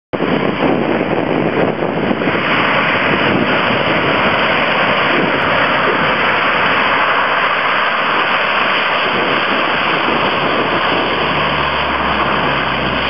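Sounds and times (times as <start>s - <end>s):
wind buffeting microphone: 0.1s - 13.0s
turboprop engines roaring: 0.2s - 13.0s.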